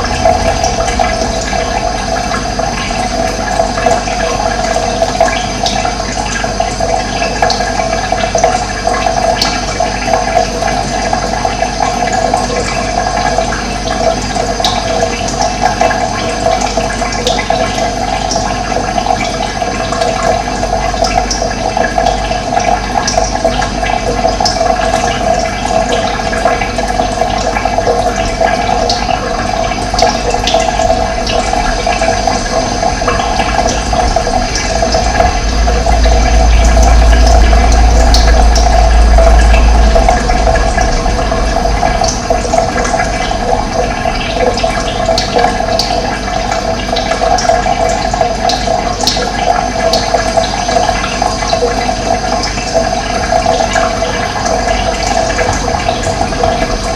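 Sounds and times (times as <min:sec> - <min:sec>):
running water: 0:00.0 - 0:56.9.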